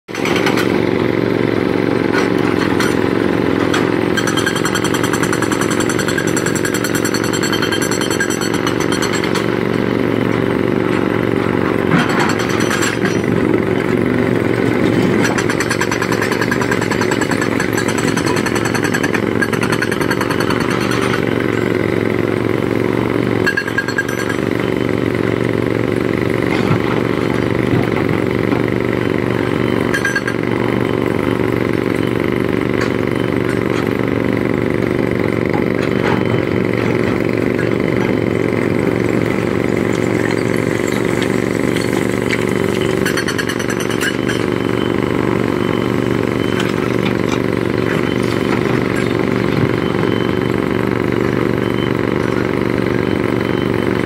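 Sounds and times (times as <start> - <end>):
excavator diesel engine running: 0.1 - 54.0.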